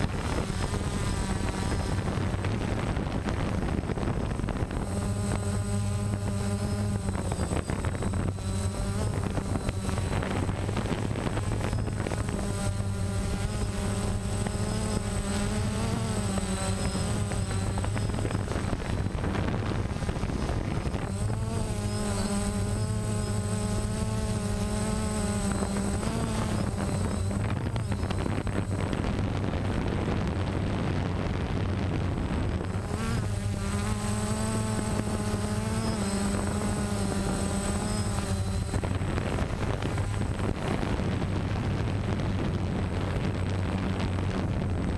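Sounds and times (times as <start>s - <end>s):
drone propellers buzzing: 0.0s - 44.9s
high whine: 0.0s - 44.9s.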